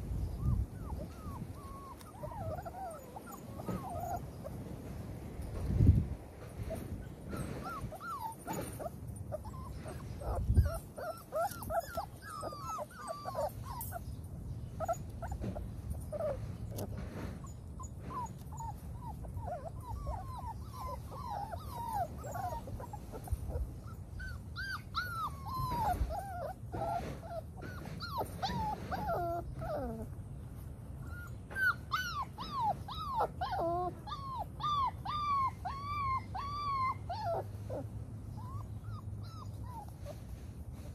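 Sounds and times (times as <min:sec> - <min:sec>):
puppies whimpering and yipping: 0:00.0 - 0:05.6, 0:06.4 - 0:40.9.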